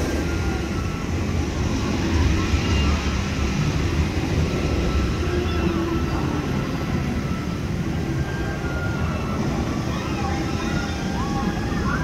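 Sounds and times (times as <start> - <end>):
faint indistinct voices: 0.0 - 12.0.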